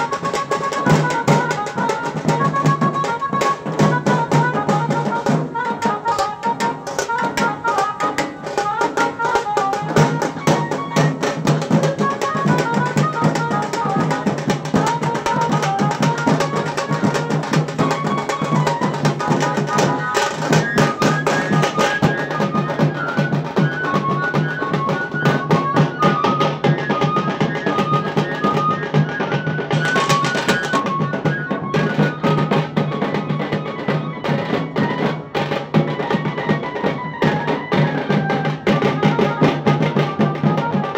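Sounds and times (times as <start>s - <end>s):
fast tasa drumming: 0.0s - 40.9s.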